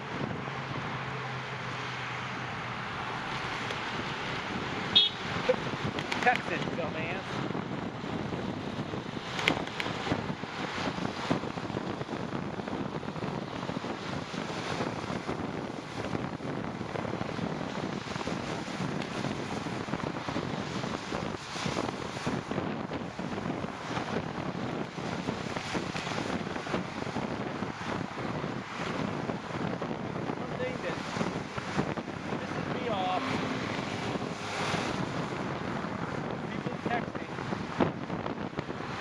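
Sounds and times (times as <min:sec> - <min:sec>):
road noise on wet pavement: 0:00.0 - 0:39.0
wind buffeting microphone: 0:00.0 - 0:39.0.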